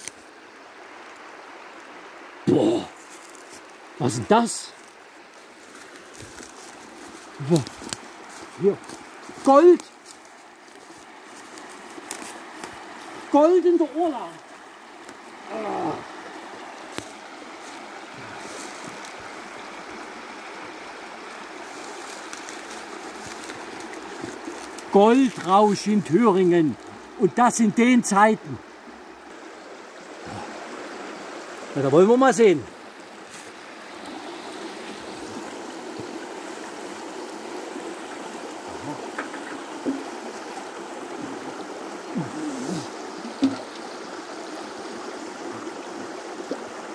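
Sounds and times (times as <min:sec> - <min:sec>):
stream rushing over stones: 0:00.0 - 0:46.9
water gurgles: 0:00.0 - 0:46.9.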